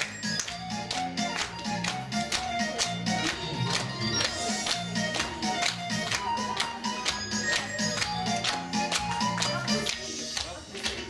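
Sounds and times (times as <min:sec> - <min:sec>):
upbeat dance music: 0:00.0 - 0:11.0.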